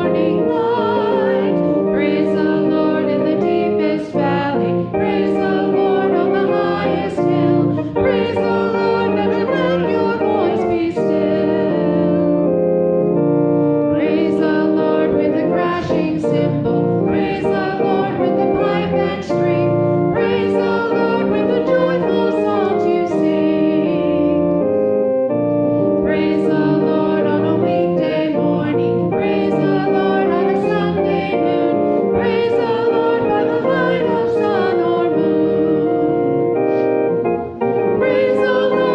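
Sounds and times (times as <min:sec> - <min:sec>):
congregation singing a hymn: 0:00.0 - 0:38.9
keyboard accompaniment: 0:00.0 - 0:38.9.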